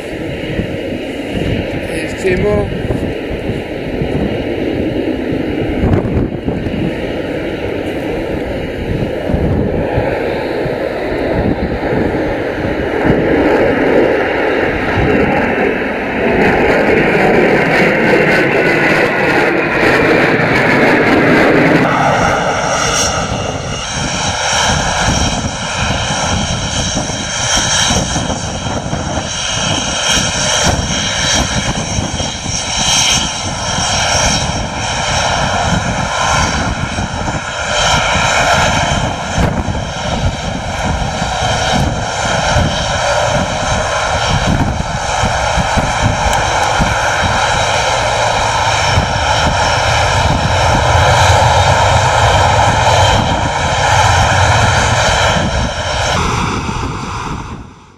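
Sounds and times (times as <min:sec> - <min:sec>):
jet engines whining and roaring: 0:00.0 - 0:57.9.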